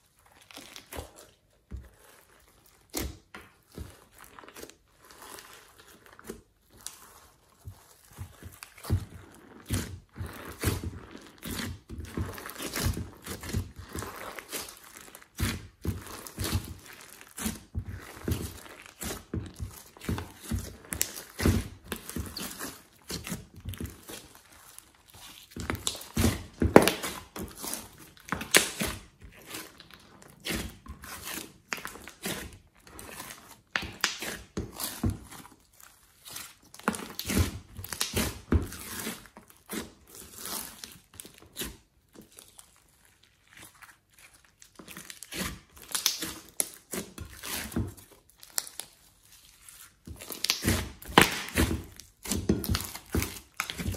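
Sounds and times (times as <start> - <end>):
hands squishing slime: 0.0 - 53.9.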